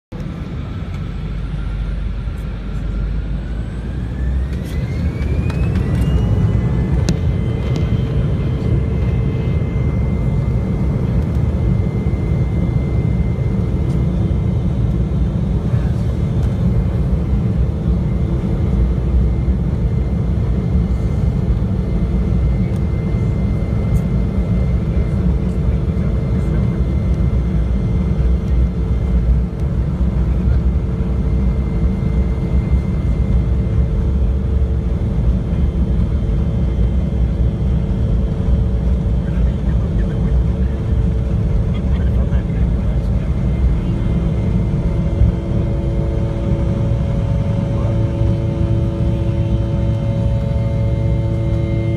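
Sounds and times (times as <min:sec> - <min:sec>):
high engine whine: 0:00.1 - 0:51.9
jet engines rumbling at takeoff: 0:00.1 - 0:51.9.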